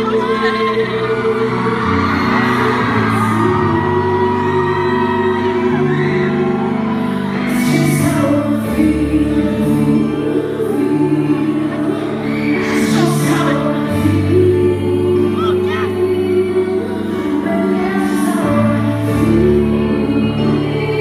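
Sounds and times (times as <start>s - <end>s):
sustained backing chords: 0.0s - 21.0s
woman singing into microphone: 0.0s - 21.0s.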